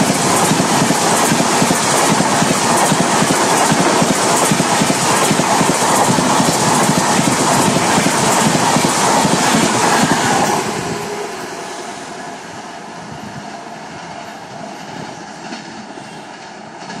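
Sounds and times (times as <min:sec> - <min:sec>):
train coaches rushing past: 0:00.0 - 0:17.0.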